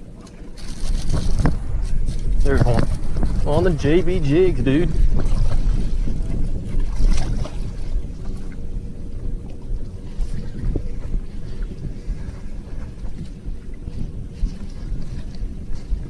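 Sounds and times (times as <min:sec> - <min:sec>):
faint steady hum: 0:00.0 - 0:16.0
water around a boat: 0:00.0 - 0:16.0
wind buffeting microphone: 0:00.0 - 0:16.0.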